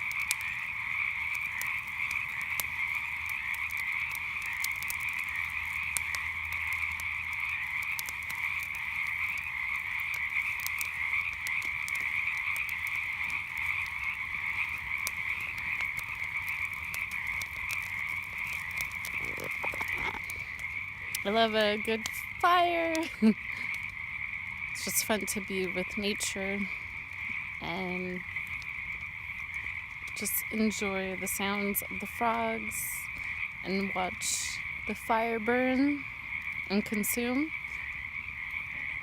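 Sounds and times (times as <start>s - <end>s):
campfire crackling: 0.0s - 39.0s
frogs calling: 0.0s - 39.0s.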